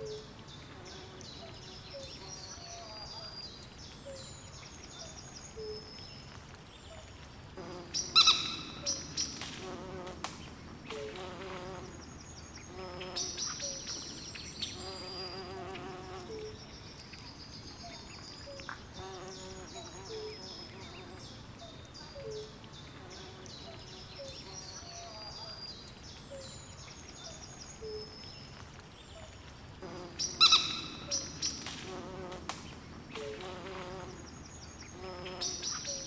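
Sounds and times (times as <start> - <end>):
faint background hiss: 0.0 - 36.0.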